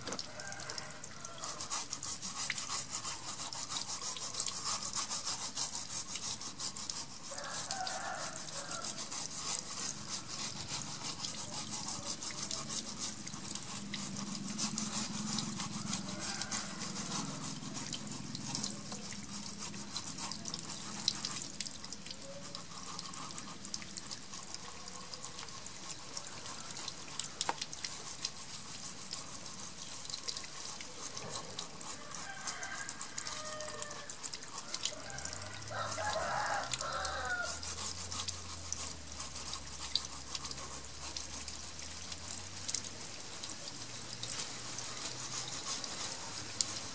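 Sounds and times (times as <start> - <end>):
running water splashing: 0.0 - 46.9
sponge scrubbing hard shell: 0.0 - 46.9.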